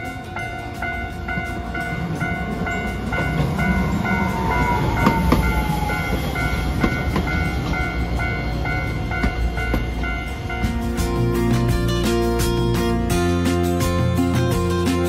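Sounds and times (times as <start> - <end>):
level crossing warning bell ringing: 0.0 - 15.0
tram rumbling past: 0.0 - 15.0.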